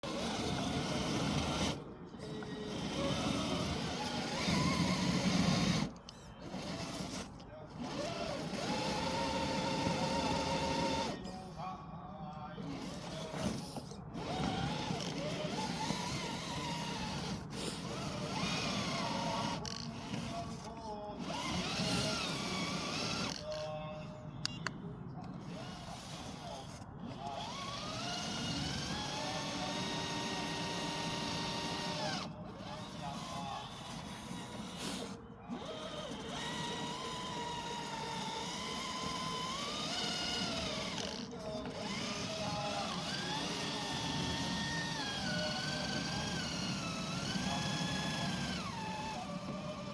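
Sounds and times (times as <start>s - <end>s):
rc car electric motor whine: 0.0s - 11.2s, 12.7s - 23.7s, 25.4s - 49.9s.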